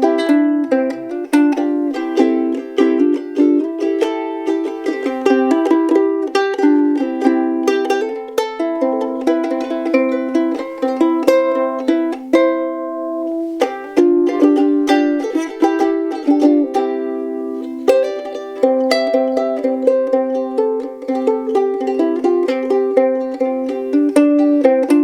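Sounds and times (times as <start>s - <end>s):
ukulele notes and chords: 0.0s - 25.0s.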